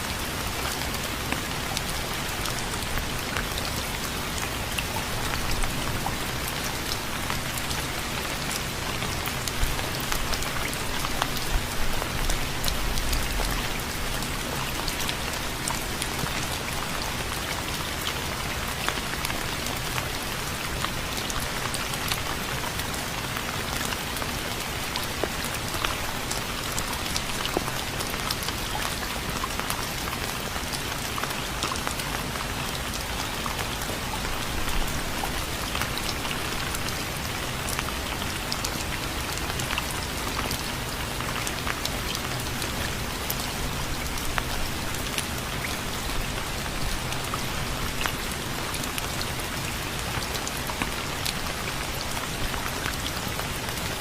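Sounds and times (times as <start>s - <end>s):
rain on a surface: 0.0s - 54.0s.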